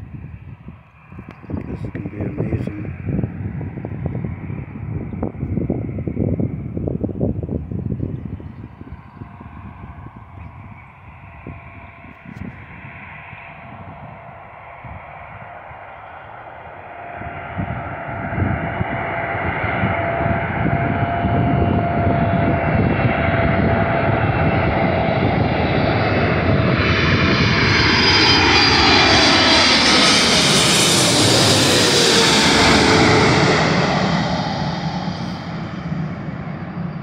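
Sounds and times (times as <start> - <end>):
jet engines passing overhead: 0.0 - 37.0.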